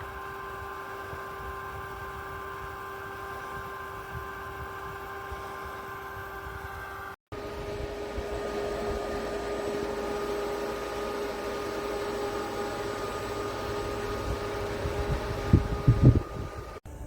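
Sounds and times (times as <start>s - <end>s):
air cooler fan running: 0.0s - 17.0s.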